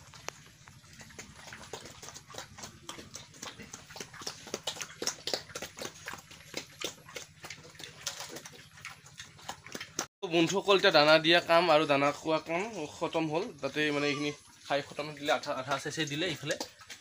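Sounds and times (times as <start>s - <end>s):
pigs smacking while eating: 0.0s - 11.4s, 14.1s - 17.0s.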